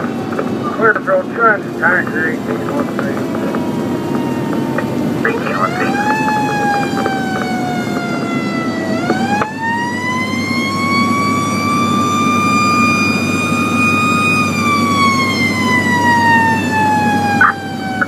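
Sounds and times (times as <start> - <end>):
fire engine siren wailing: 0.0 - 18.0
truck engine drone: 0.0 - 18.0.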